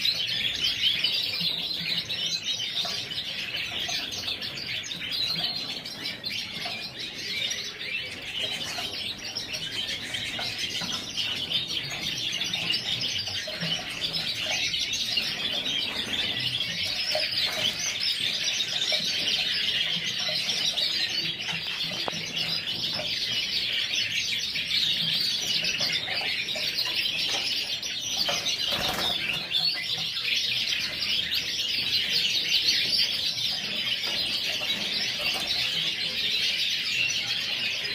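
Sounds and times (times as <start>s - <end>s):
canaries chirping and singing: 0.0s - 37.9s.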